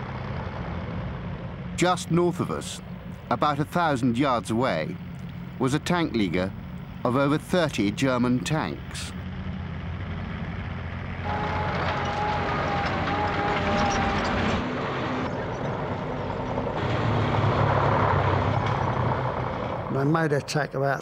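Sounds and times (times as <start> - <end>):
tank engines rumbling: 0.0 - 21.0.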